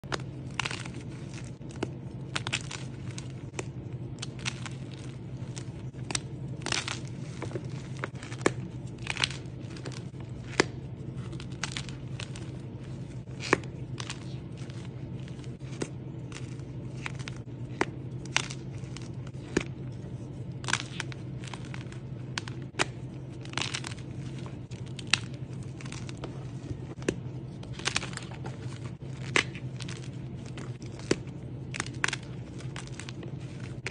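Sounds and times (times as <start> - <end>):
chalky blocks crunching: 0.0 - 33.9
low steady hum: 0.0 - 33.9.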